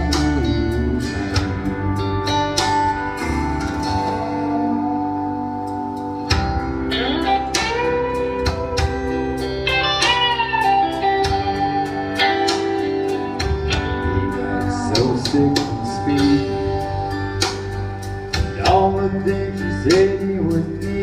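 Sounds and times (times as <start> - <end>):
blues guitar with sliding notes: 0.0 - 21.0.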